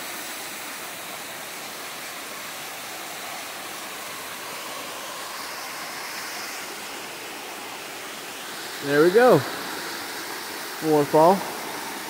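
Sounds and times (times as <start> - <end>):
creek rushing over rocks: 0.0 - 12.0
small waterfall pouring: 0.0 - 12.0.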